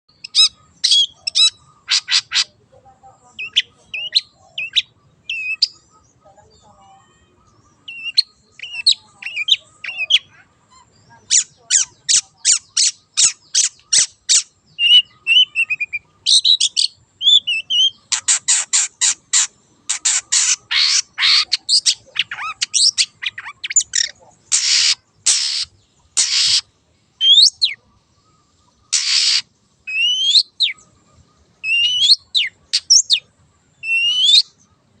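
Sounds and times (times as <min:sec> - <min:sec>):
bird singing harsh rasping notes: 0:00.1 - 0:35.0
bird whistling and chirping: 0:03.4 - 0:06.0, 0:07.0 - 0:26.6, 0:27.2 - 0:31.0, 0:31.6 - 0:34.6.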